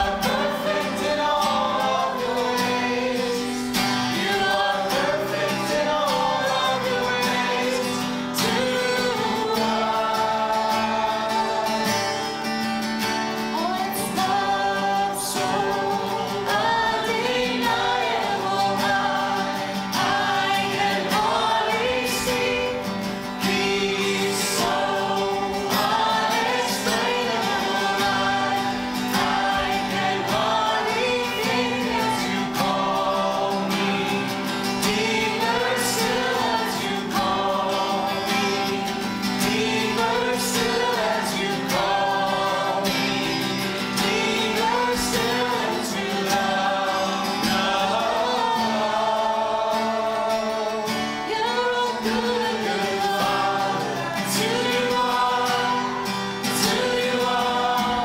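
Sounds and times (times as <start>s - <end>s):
congregation singing: 0.0s - 58.0s
strummed acoustic guitar: 0.0s - 58.0s.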